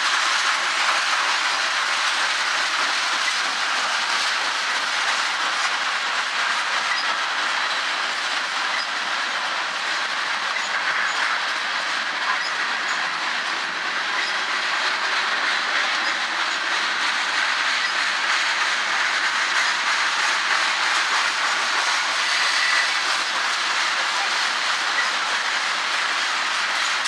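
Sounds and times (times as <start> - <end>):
steel wheels rolling on rail: 0.0 - 27.0
wheels clicking over rail joints: 0.0 - 27.0.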